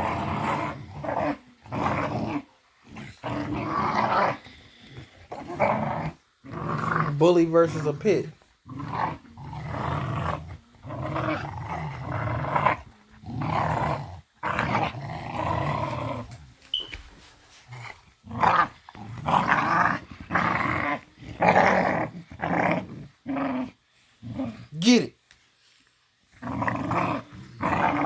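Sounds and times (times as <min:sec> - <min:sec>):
puppies growling: 0:00.0 - 0:16.6, 0:17.6 - 0:24.7, 0:26.4 - 0:28.0.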